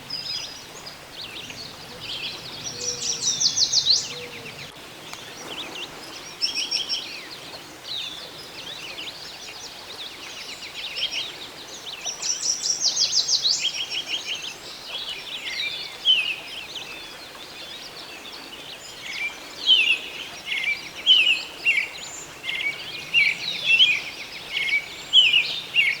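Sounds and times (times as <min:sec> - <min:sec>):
songbirds singing and chirping: 0:00.0 - 0:26.0.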